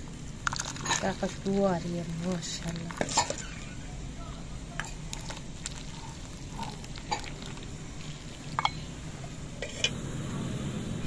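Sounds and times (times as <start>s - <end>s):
tea trickling through strainer: 0.3s - 9.9s.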